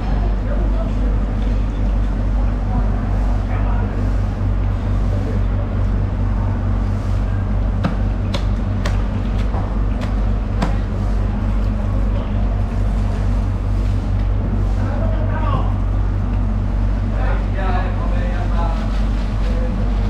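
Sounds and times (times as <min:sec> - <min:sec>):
low machine rumble: 0:00.0 - 0:20.0.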